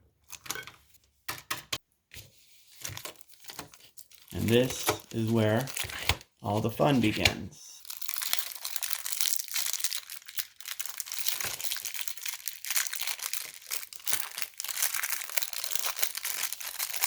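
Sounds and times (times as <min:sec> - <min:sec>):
packaging crinkling: 0:02.6 - 0:17.0.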